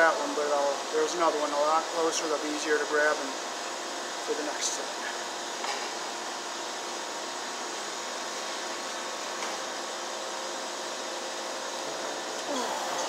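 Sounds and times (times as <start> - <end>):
fan whooshing hum: 0.0 - 13.0.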